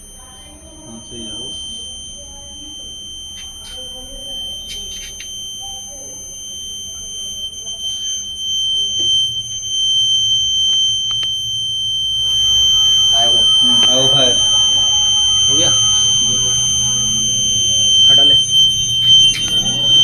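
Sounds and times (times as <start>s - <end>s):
fire alarm high-pitched tone: 0.0s - 20.0s.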